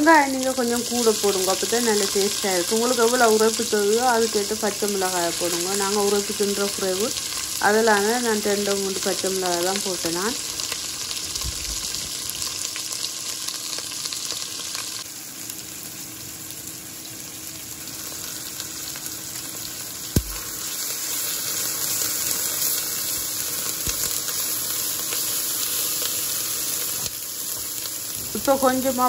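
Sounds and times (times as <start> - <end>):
onions sizzling in hot oil: 0.0 - 29.0.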